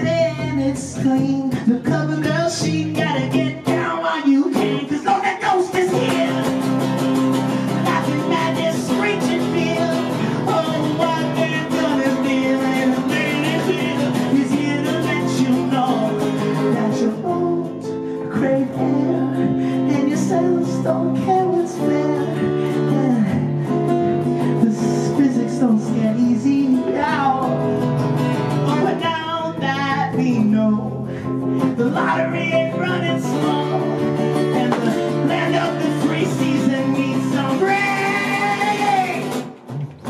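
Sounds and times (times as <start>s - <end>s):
man singing: 0.0s - 39.6s
strummed acoustic guitar: 0.0s - 40.0s.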